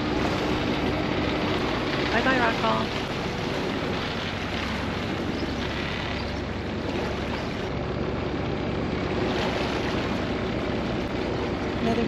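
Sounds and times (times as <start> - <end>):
boat engines droning: 0.0 - 12.0
water wash: 0.0 - 12.0.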